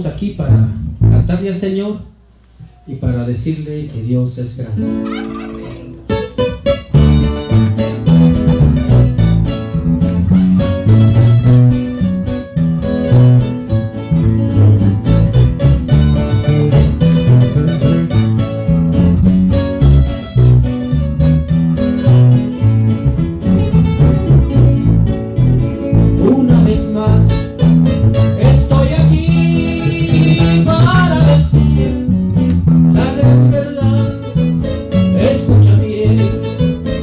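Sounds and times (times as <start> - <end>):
bass line: 0.0 - 1.8, 4.8 - 37.0
plucked guitar music: 4.8 - 37.0.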